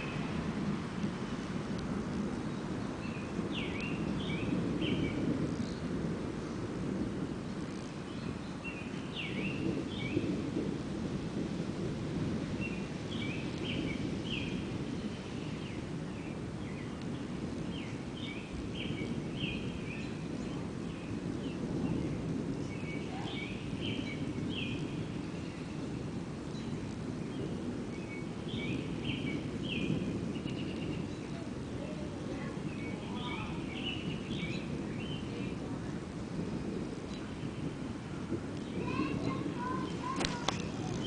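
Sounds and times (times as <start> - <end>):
songbird singing: 0.0 - 0.5, 1.8 - 6.6, 7.4 - 10.5, 12.5 - 41.0
distant thunder rumble: 0.0 - 41.0.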